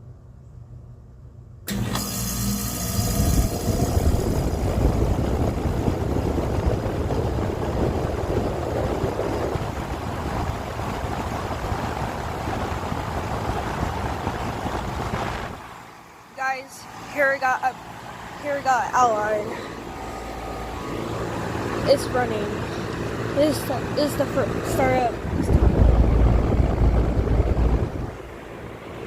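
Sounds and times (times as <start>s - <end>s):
heat pump whooshing hum: 0.0s - 29.0s
heat pump kicking on: 1.6s - 15.9s, 16.8s - 29.0s.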